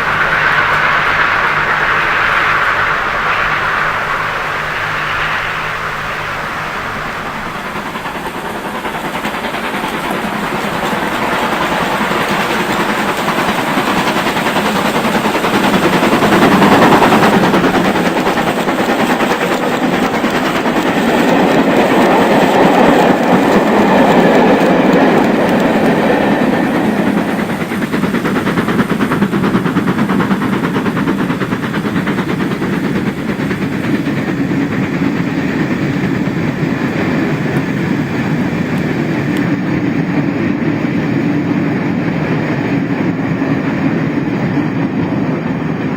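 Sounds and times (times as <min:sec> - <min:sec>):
model train wheels clattering: 0:00.0 - 0:40.5.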